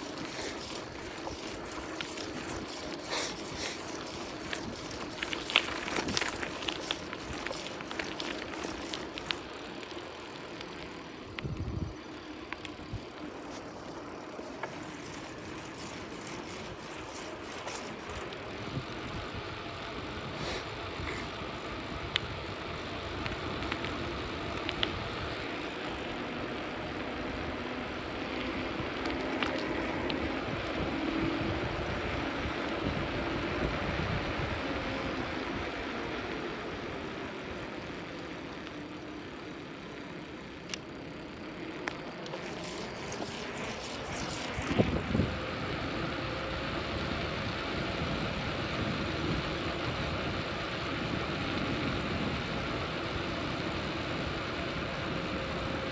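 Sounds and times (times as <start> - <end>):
bicycle tyre and air rush: 0.0 - 55.9
bike rattling over bumps: 0.0 - 55.9.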